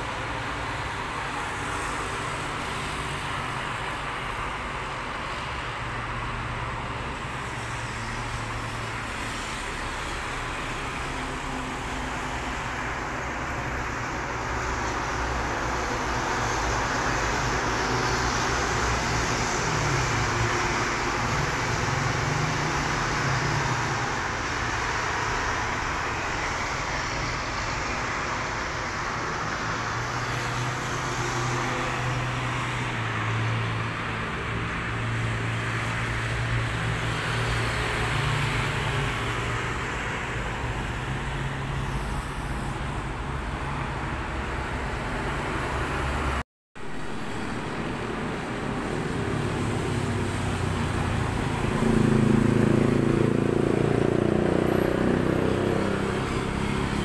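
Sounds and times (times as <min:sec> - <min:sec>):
cars passing on road: 0:00.0 - 0:57.0.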